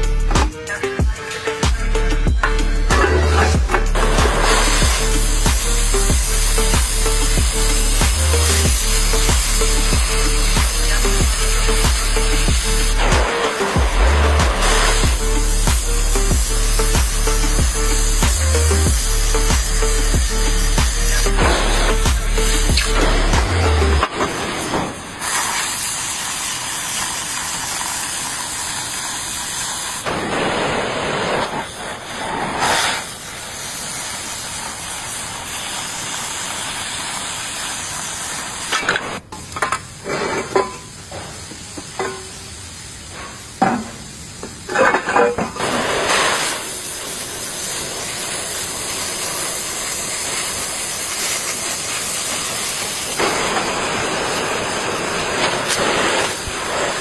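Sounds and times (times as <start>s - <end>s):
welding arc crackling: 0.0s - 39.6s, 45.6s - 57.0s.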